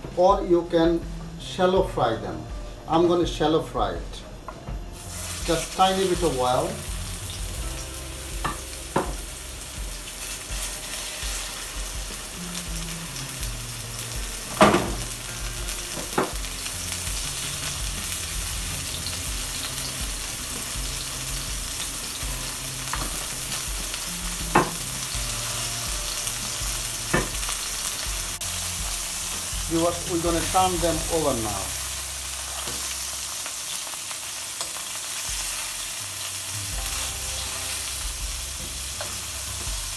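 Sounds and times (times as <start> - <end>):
patties sizzling in oil: 4.9 - 39.9.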